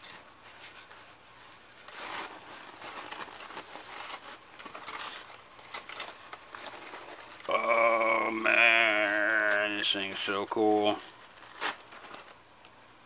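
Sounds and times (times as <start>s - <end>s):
paper rustling and crinkling: 0.0s - 12.6s.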